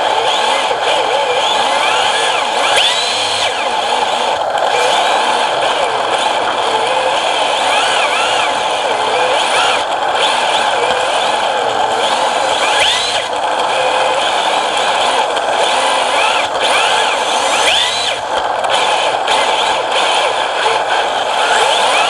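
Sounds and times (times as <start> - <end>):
toy car electric motor whining: 0.0 - 22.0.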